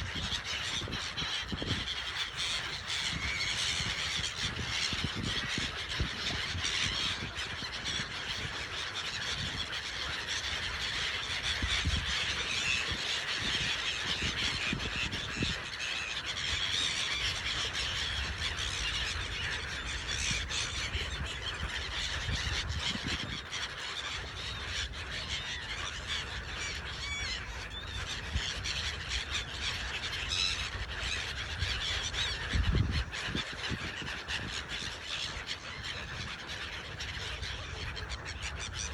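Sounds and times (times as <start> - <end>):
gulls calling: 0.0 - 38.9.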